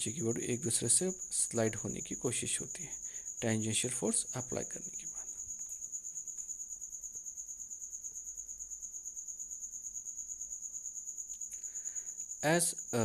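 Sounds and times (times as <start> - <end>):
faint room noise: 0.0 - 13.0.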